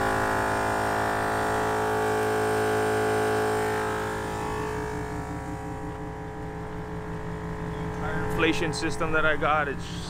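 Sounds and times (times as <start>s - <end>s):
air compressor humming and whining: 0.0s - 10.0s.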